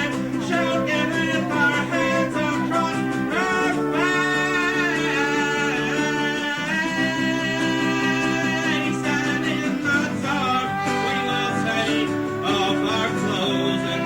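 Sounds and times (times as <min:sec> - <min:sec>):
man singing: 0:00.0 - 0:14.0
strummed acoustic guitar: 0:00.0 - 0:14.0.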